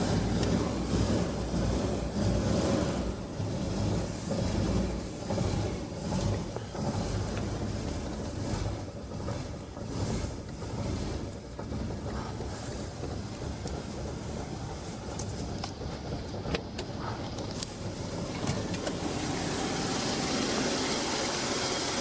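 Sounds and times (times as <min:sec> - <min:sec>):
car engine idling: 0:00.0 - 0:22.0
engine knocking: 0:00.0 - 0:22.0.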